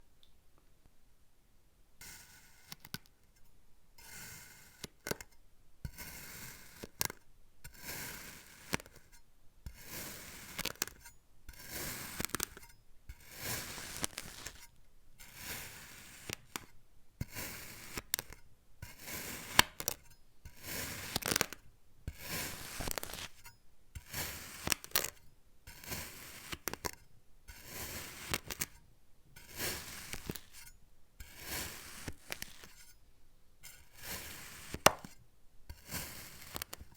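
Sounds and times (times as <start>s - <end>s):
blade cutting kinetic sand: 2.0s - 3.0s, 4.0s - 5.3s, 5.9s - 28.8s, 29.4s - 33.0s, 33.6s - 36.9s.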